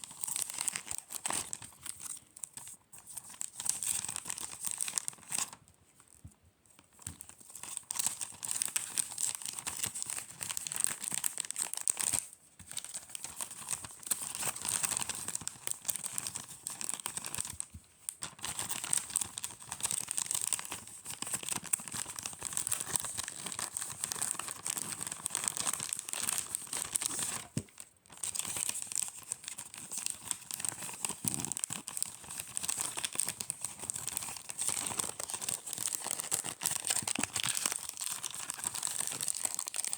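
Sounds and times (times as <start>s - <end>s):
wrapping paper crinkling and tearing: 0.0s - 5.6s, 7.0s - 39.9s.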